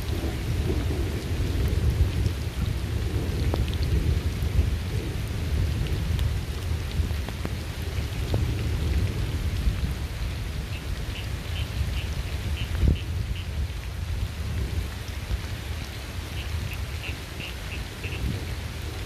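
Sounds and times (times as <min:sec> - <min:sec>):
heavy rain: 0:00.0 - 0:19.0
low rumble of thunder: 0:00.0 - 0:19.0.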